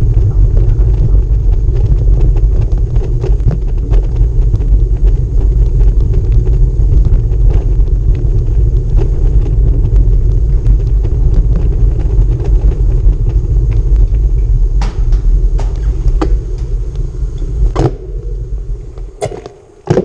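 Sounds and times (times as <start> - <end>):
bicycle rattling over cobblestones: 0.0 - 16.8.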